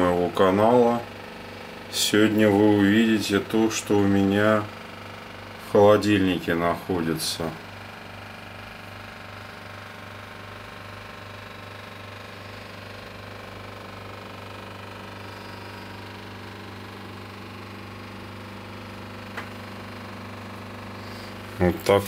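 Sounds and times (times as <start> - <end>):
refrigerator humming: 0.0 - 22.0.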